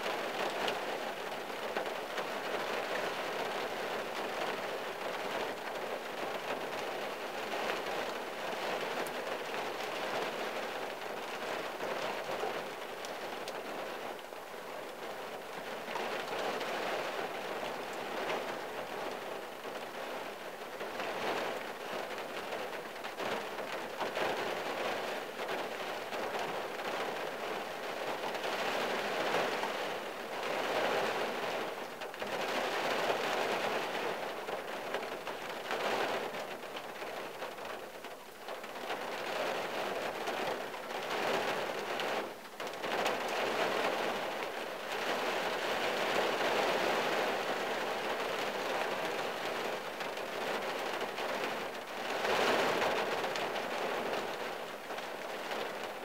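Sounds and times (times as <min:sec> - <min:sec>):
rain on car roof: 0:00.0 - 0:56.0.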